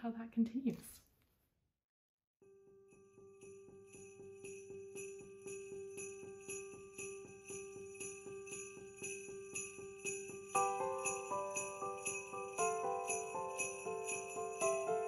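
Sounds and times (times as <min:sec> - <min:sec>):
music with sleigh bells: 0:02.9 - 0:15.0.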